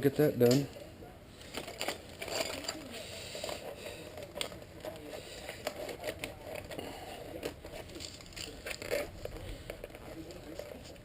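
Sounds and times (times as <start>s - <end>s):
tool pouch rustling: 1.4s - 11.0s.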